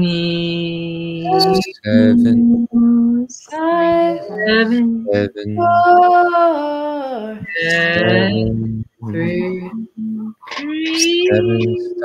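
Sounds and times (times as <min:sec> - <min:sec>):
voices vocalizing wordlessly: 0:00.0 - 0:12.0.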